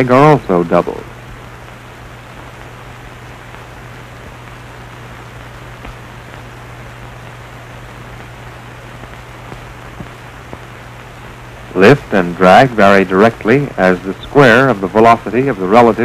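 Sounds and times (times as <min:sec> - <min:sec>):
film soundtrack hiss: 0:00.0 - 0:16.0
low hum: 0:00.0 - 0:16.0.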